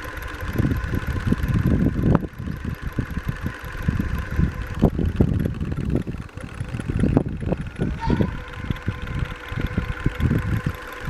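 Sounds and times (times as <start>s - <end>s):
electric motor whining: 0.0s - 11.0s
low rumbling and thumps: 0.4s - 11.0s.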